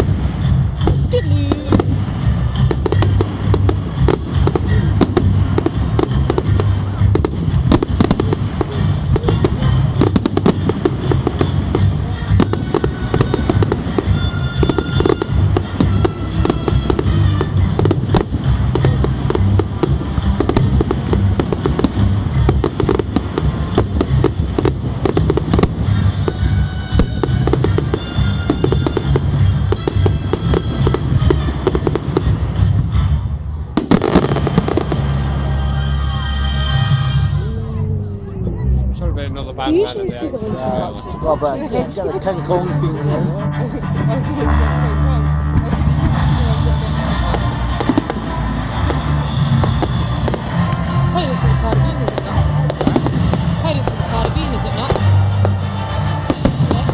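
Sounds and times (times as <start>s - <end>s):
fireworks bangs and crackling: 0.0s - 36.1s, 44.0s - 56.9s
film music in background: 0.0s - 56.9s.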